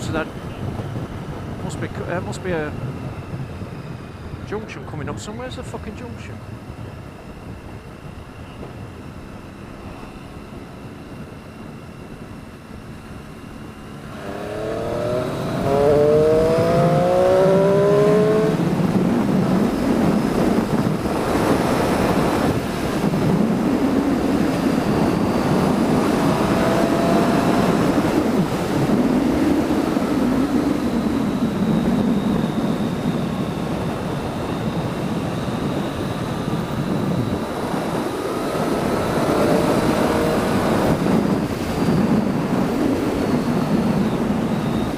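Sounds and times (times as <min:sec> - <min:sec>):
wind rush: 0:00.0 - 0:44.9
motorcycle engine accelerating: 0:05.6 - 0:44.9.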